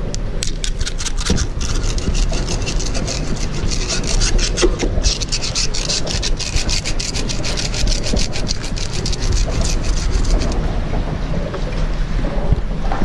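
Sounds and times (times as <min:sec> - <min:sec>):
plastic hull scraping on piling: 0:00.0 - 0:11.7
water sloshing: 0:00.0 - 0:12.9.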